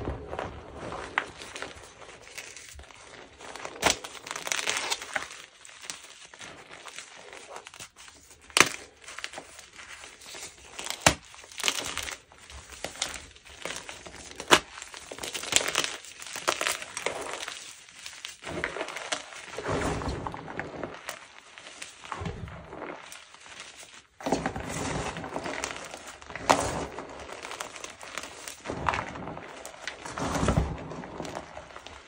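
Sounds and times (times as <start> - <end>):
chalk powder crunching: 0.8 - 20.0, 20.7 - 32.0.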